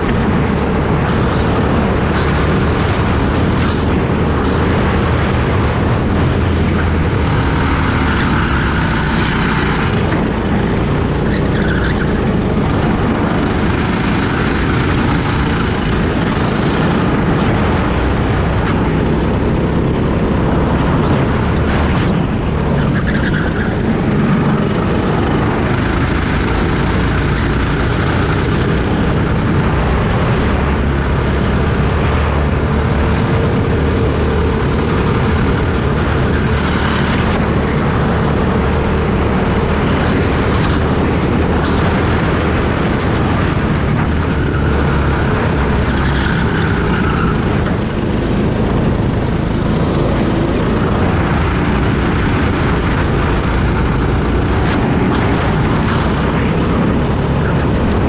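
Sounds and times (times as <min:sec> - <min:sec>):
go-kart engine running: 0:00.0 - 0:58.0
wind on microphone: 0:00.0 - 0:58.0.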